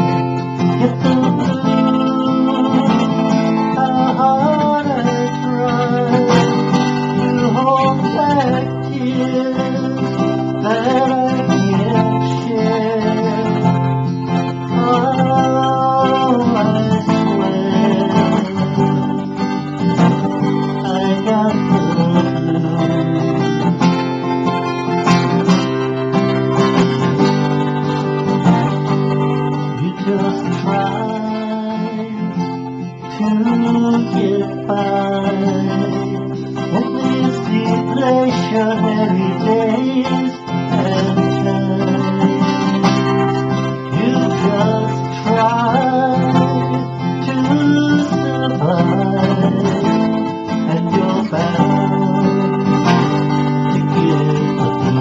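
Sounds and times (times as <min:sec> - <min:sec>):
acoustic guitar strumming: 0:00.0 - 0:55.0
pitch-bending melody line: 0:00.0 - 0:55.0.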